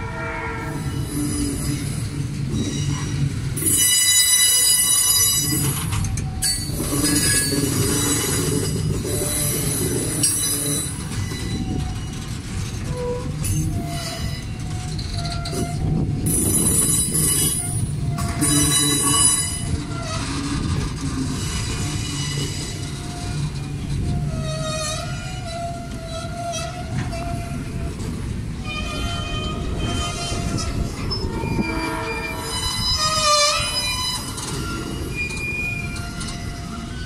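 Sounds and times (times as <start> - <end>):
train wheels rumbling on rail: 0.0 - 37.0
wheel squeal: 0.7 - 28.1, 28.7 - 37.0.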